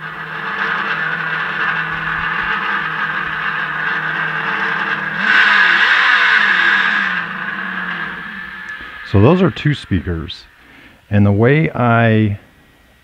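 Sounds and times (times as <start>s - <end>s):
simulated engine idling and revving: 0.0s - 10.6s.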